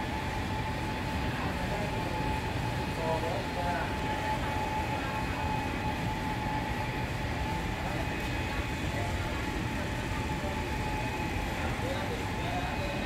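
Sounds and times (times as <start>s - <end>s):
faint machine whine: 0.0s - 13.0s.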